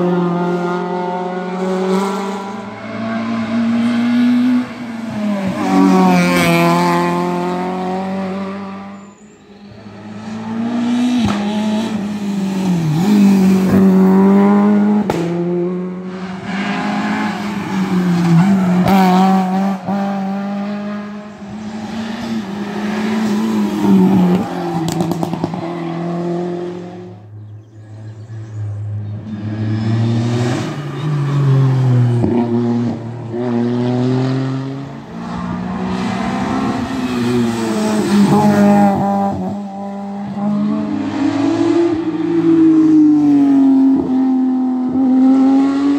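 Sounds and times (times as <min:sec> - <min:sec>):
rally car accelerating: 0:00.0 - 0:45.9
rally car engines revving: 0:00.0 - 0:45.9.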